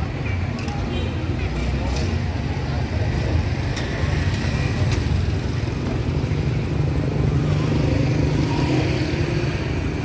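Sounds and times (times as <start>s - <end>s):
motorbike engines running: 0.0s - 10.0s.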